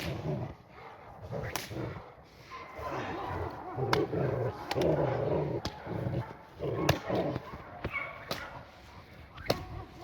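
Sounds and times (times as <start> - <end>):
dog barking: 0.5 - 1.3, 1.9 - 10.0.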